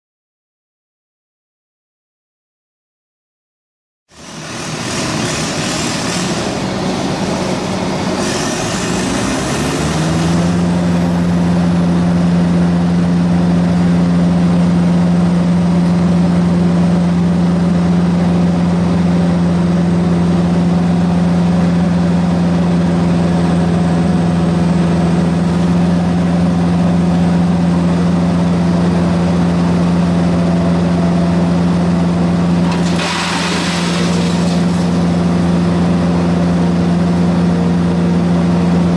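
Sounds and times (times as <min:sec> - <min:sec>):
wood chipper diesel engine running: 0:04.1 - 0:38.9.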